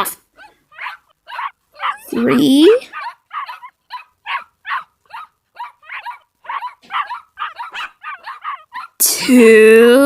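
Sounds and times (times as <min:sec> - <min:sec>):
puppy yipping and barking: 0:00.4 - 0:09.0.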